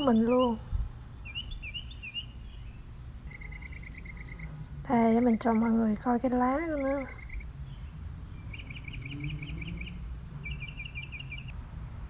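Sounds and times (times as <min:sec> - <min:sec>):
songbird trilling: 0:00.0 - 0:00.6, 0:01.2 - 0:11.6
low steady rumble: 0:00.0 - 0:12.0.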